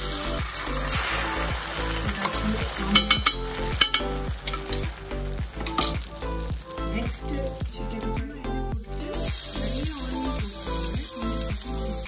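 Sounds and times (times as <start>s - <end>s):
egg sizzling in hot oil: 0.0s - 7.6s, 9.1s - 12.0s
background music: 0.0s - 12.0s
sharp crackles: 0.0s - 12.0s.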